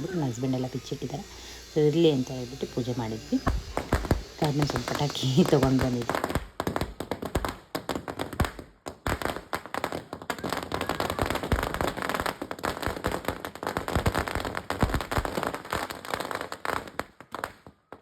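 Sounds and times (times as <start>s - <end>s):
firecrackers popping: 0.0s - 18.0s.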